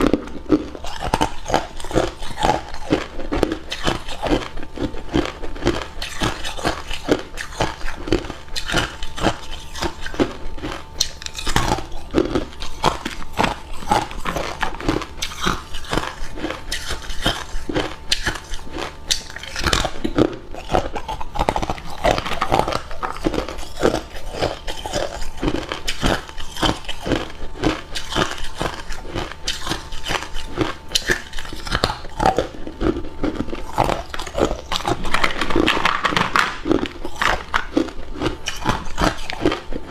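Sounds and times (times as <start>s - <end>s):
chewing ice cubes crunching: 0.0s - 39.9s.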